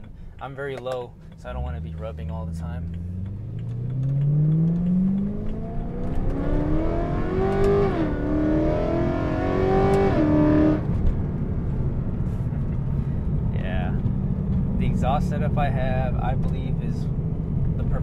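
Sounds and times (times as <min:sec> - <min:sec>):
low engine cruising drone: 0:00.0 - 0:18.0
car engine accelerating from inside: 0:01.5 - 0:16.5.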